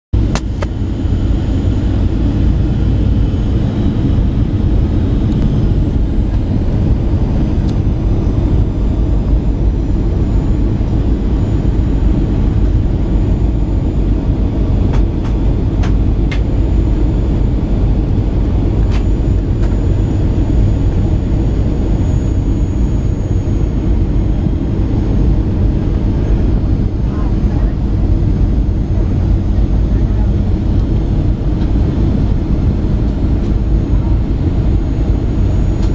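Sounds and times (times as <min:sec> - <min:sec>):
airliner cabin rumble: 0:00.2 - 0:35.9.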